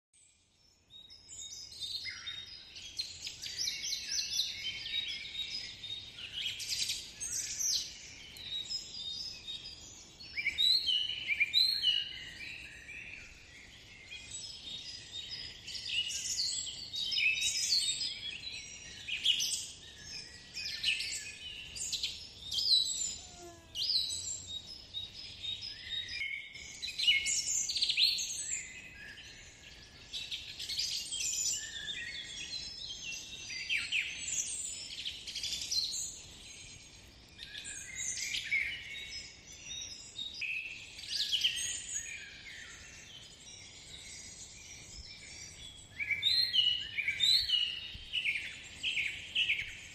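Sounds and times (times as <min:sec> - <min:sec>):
songbirds chirping and trilling: 0:00.2 - 0:49.9.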